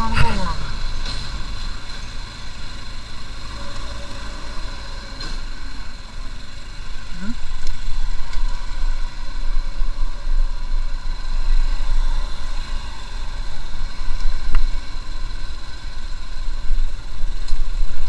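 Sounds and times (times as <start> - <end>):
motorcycle engine drone: 0.0 - 18.0.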